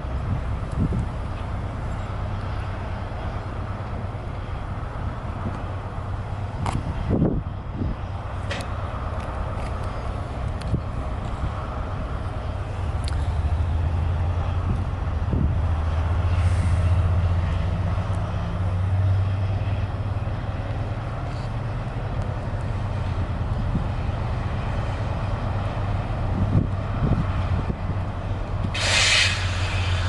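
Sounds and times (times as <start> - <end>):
diesel train engine droning: 0.0 - 30.0.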